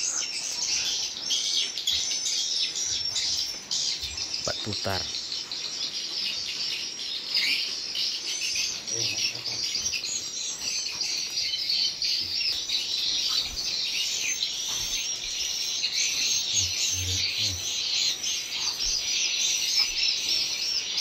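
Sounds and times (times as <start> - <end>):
swiftlets twittering and chirping: 0.0 - 21.0.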